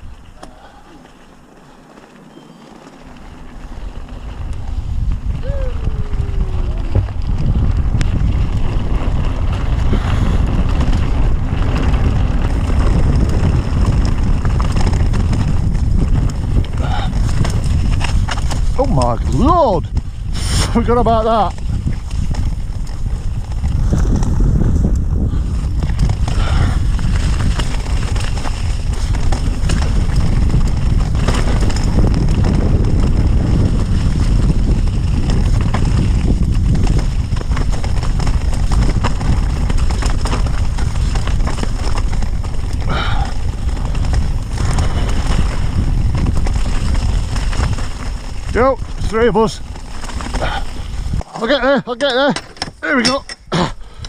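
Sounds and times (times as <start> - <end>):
wind rumble on microphone: 0.0 - 0.8, 3.0 - 54.0
bike rattling over rough trail: 0.0 - 54.0.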